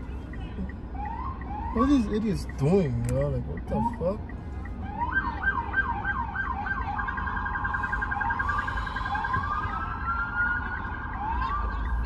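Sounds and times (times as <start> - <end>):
emergency vehicle siren: 0.0 - 12.0
low traffic rumble: 0.0 - 12.0.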